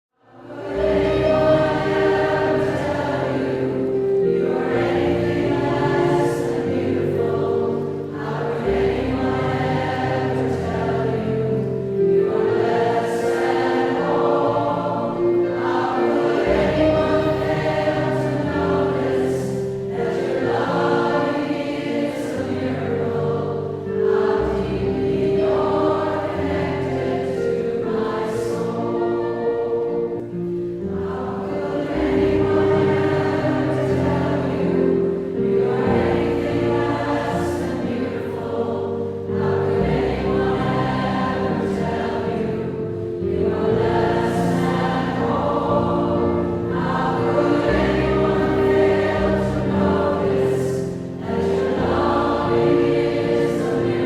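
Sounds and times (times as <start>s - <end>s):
choir singing held notes: 0.2s - 54.0s.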